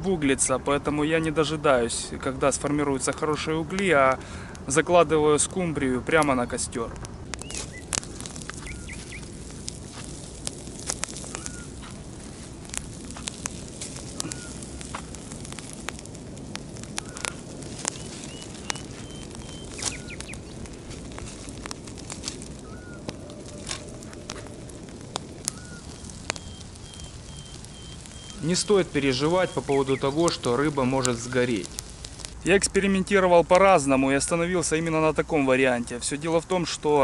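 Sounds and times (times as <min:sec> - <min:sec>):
campfire crackling: 0:00.0 - 0:37.0
fire hissing: 0:00.0 - 0:37.0.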